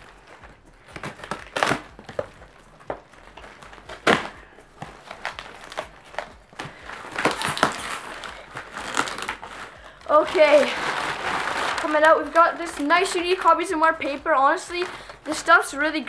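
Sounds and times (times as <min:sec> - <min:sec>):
sharp cardboard cracks: 0:00.0 - 0:12.9
cardboard box flaps crunching: 0:00.0 - 0:13.0.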